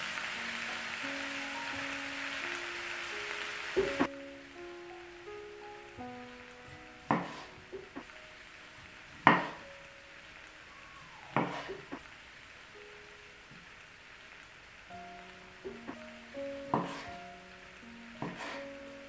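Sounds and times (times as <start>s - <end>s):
food sizzling in oil: 0.0s - 19.0s.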